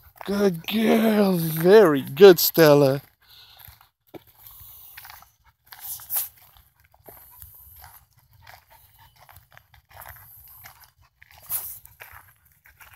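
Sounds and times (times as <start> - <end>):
footsteps scuffing on gritty pavement: 0.0 - 12.9.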